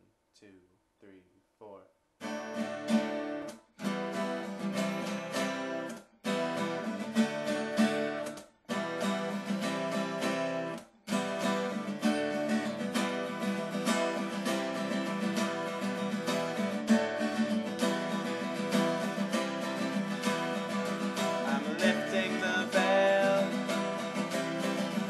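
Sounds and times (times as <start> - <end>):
acoustic guitar strumming: 2.2 - 25.0.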